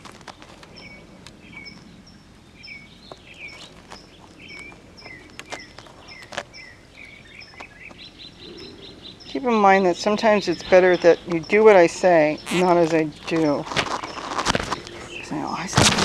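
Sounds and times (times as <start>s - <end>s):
bird calling: 0.0s - 16.0s.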